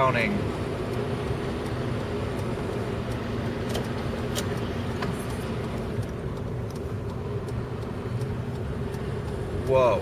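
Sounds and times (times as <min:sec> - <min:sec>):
car engine and road noise: 0:00.0 - 0:10.0
faint sharp ticks: 0:00.8 - 0:10.0.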